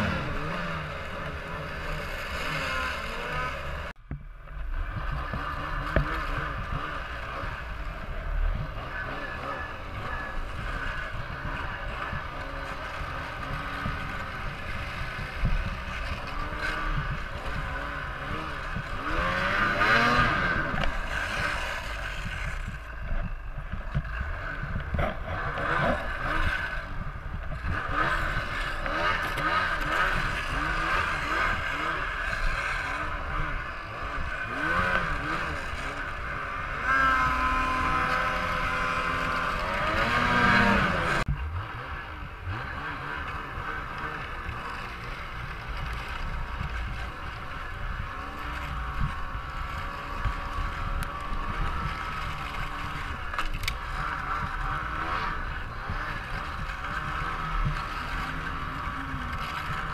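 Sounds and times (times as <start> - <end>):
snowmobile engine revving: 0.0 - 4.0, 4.6 - 59.9.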